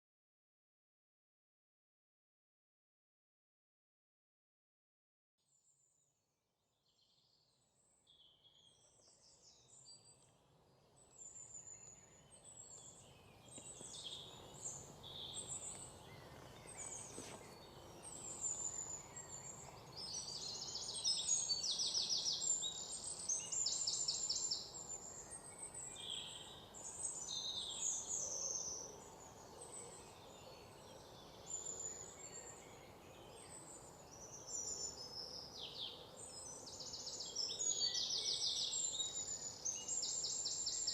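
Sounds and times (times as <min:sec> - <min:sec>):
forest birds singing: 0:06.8 - 0:40.9.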